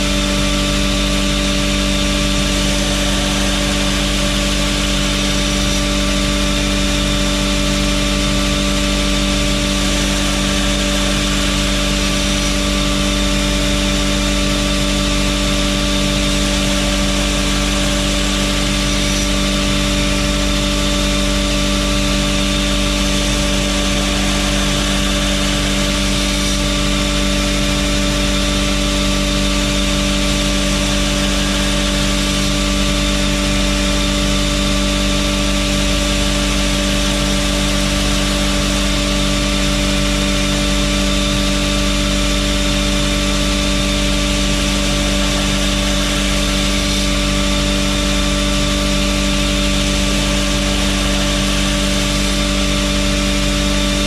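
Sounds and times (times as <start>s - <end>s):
belt grinder motor hum: 0.0s - 54.0s
abrasive belt hiss: 0.7s - 54.0s.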